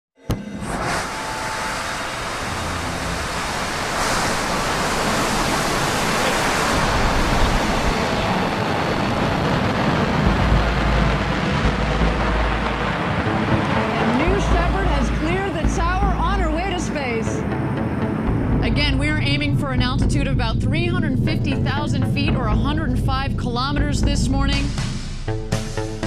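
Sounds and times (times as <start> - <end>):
rocket engine firing: 0.3 - 25.8.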